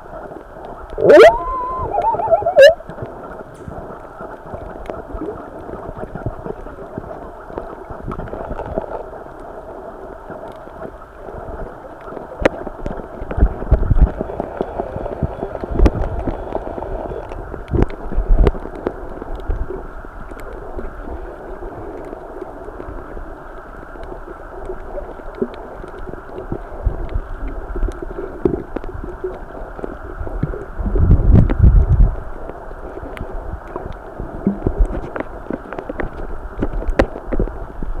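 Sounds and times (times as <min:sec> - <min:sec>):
muffled underwater noise: 0:00.0 - 0:31.0.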